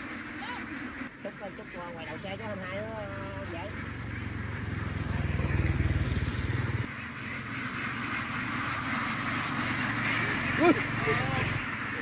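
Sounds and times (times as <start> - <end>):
ducks quacking: 0.0 - 12.0
engine running: 1.5 - 12.0.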